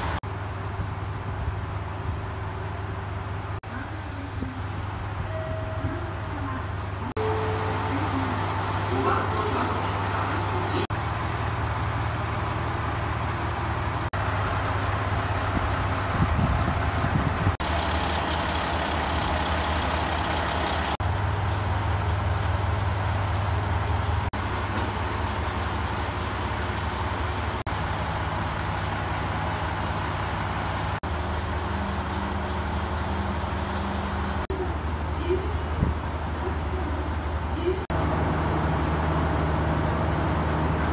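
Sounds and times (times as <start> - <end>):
diesel engine idling: 0.0 - 5.4, 6.4 - 40.9.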